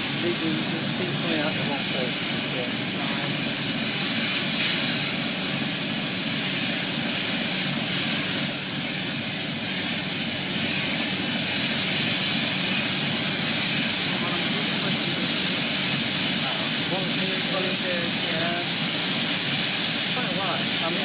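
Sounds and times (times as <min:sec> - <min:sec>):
steam hissing from locomotive: 0:00.0 - 0:21.0.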